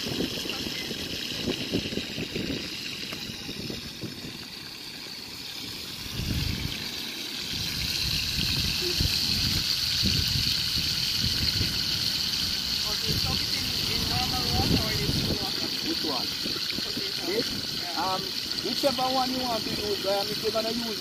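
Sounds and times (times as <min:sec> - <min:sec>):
oil sizzling in a frying pan: 0:00.0 - 0:21.0.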